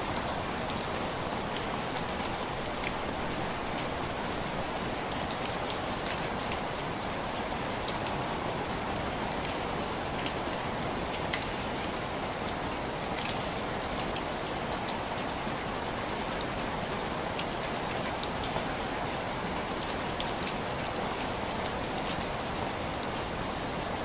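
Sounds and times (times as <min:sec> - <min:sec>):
rain on window glass: 0:00.0 - 0:24.0.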